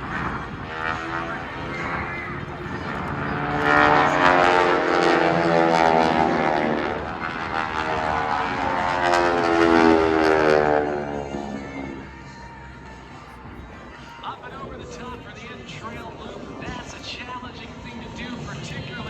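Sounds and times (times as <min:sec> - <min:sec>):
propeller planes passing: 0:00.0 - 0:19.0.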